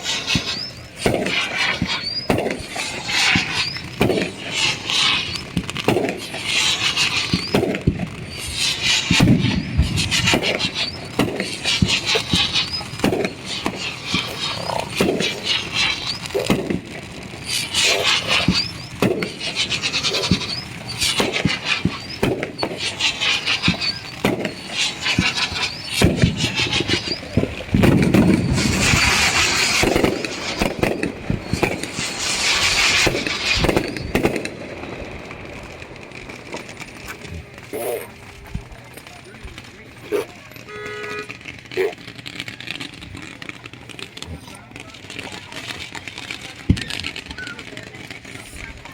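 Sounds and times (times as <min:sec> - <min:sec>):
fireworks crackling and popping: 0:00.0 - 0:48.9.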